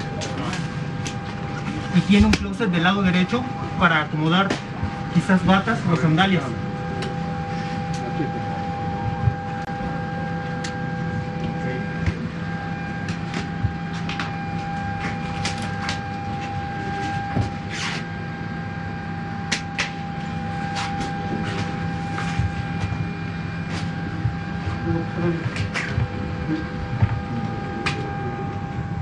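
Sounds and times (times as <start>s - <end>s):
airliner cabin ventilation hum: 0.0s - 29.0s
constant whine: 0.0s - 29.0s.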